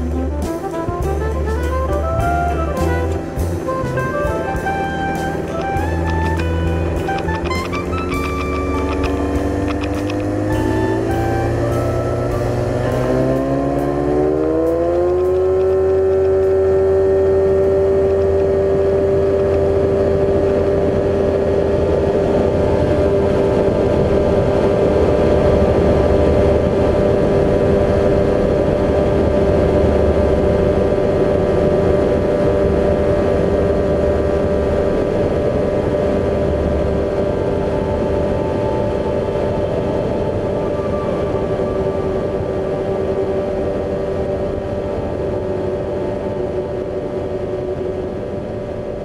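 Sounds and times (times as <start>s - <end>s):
ultralight engine and propeller drone: 0.0s - 49.0s.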